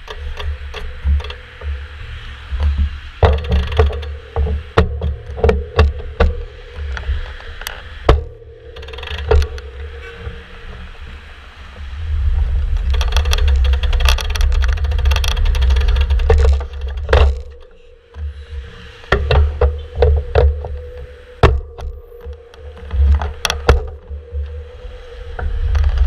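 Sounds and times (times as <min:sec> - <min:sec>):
sharp knocks: 0:00.0 - 0:11.0, 0:12.9 - 0:24.6
wind buffeting microphone: 0:00.0 - 0:26.0.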